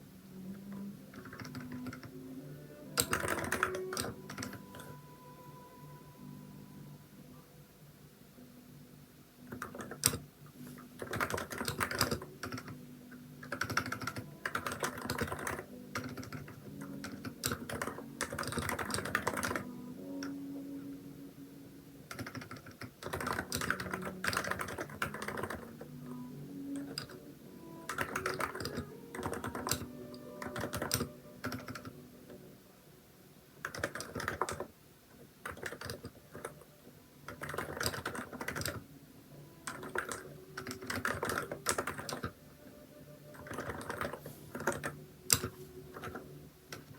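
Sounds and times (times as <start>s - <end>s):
keyboard typing: 0.5s - 5.3s, 9.5s - 21.0s, 22.1s - 32.4s, 33.6s - 46.9s.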